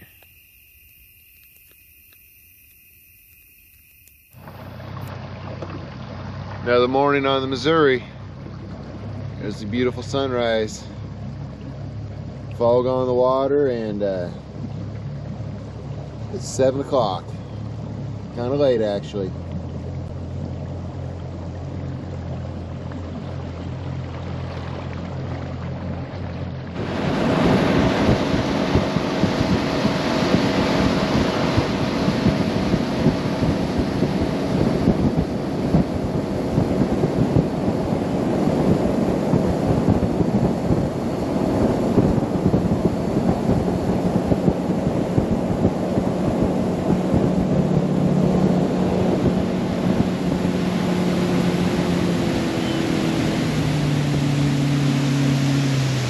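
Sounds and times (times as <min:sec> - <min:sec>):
outboard motor running: 0:00.0 - 0:56.0
wind and water rushing: 0:04.3 - 0:56.0.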